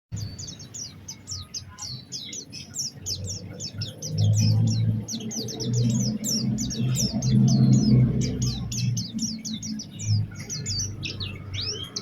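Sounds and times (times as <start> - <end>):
bird twittering song: 0.1 - 12.0.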